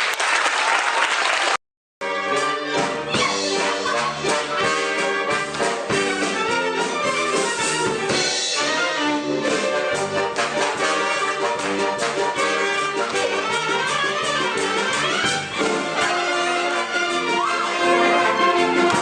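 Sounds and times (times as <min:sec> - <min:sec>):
orchestral music with brass: 0:02.0 - 0:19.0.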